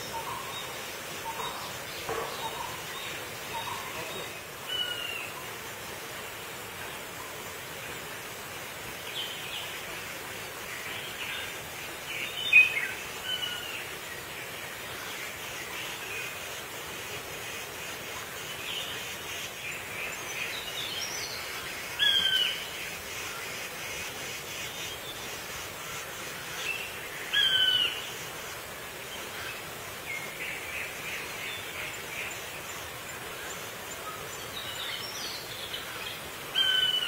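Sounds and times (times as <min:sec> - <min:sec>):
outdoor hiss: 0:00.0 - 0:37.0.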